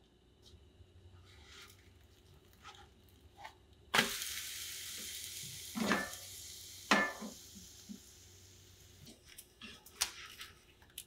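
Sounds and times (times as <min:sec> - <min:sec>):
crepe sizzling in a frying pan: 0:01.2 - 0:10.5.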